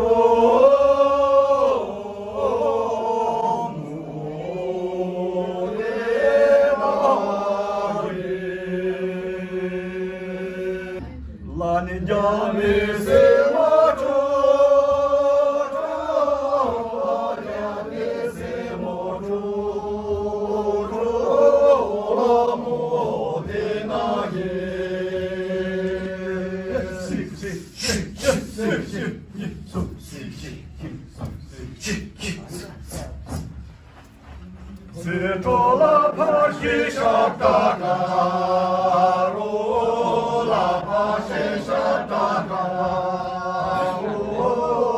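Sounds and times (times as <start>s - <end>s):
group singing without instruments: 0.0s - 44.9s.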